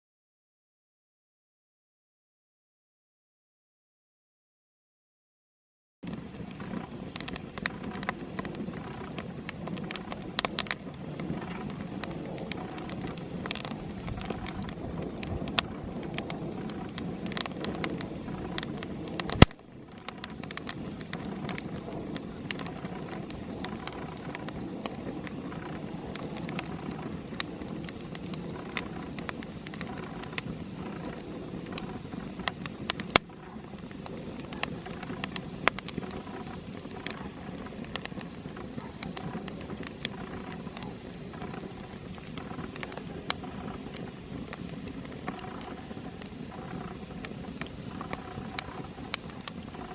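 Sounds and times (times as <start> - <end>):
campfire crackling: 6.0 - 49.9
fire cracking loudly: 6.0 - 49.9.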